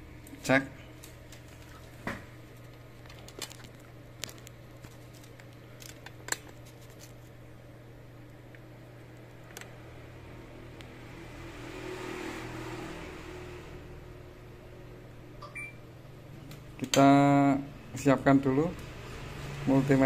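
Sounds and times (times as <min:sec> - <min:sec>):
low background hum: 0:00.0 - 0:11.7, 0:13.1 - 0:20.0.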